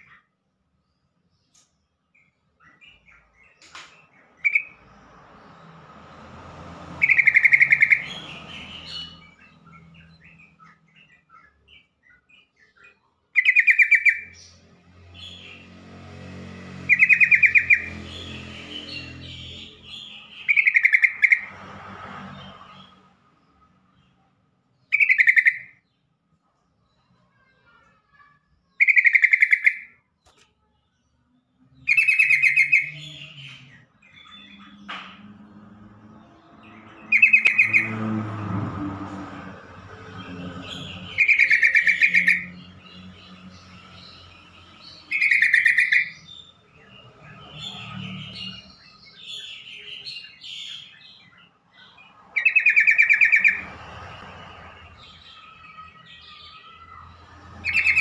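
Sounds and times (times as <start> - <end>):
bird singing rapid phrases: 0.0 - 58.0
soft bird twittering: 1.5 - 5.7, 7.0 - 15.7, 16.9 - 21.5, 24.8 - 25.8, 26.9 - 30.8, 31.8 - 38.2, 39.2 - 58.0.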